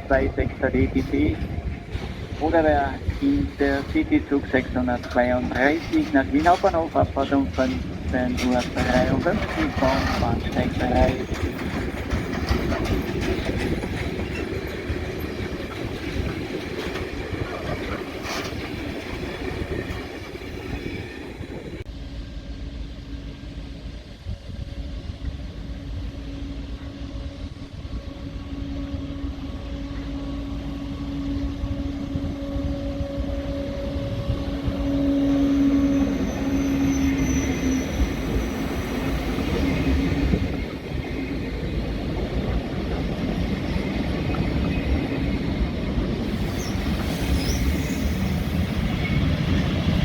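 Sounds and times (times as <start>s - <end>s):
low electric train hum: 0.0s - 50.0s
train rumbling through station: 0.0s - 50.0s.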